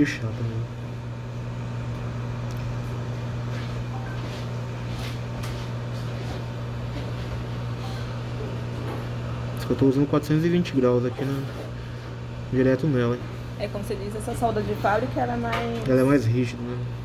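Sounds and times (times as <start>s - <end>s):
hot-air blower hissing: 0.0s - 17.0s.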